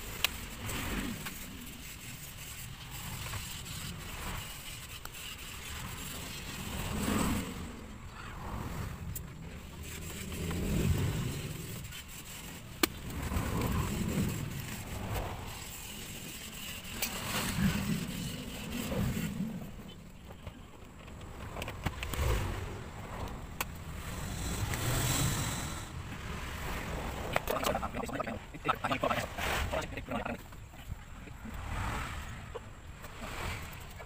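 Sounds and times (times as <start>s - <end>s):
low uneven rumble: 5.8s - 34.0s.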